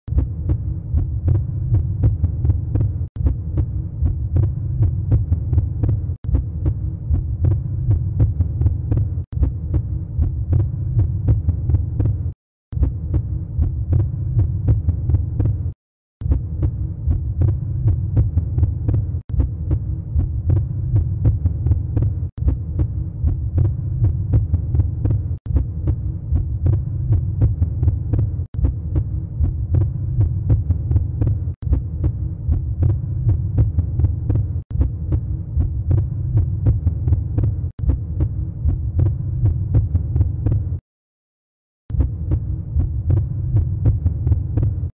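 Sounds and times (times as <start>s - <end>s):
low throbbing pulsing hum: 0.1s - 40.8s.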